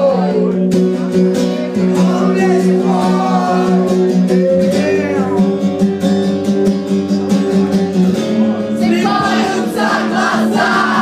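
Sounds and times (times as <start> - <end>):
live band music led by guitar: 0.0 - 11.0.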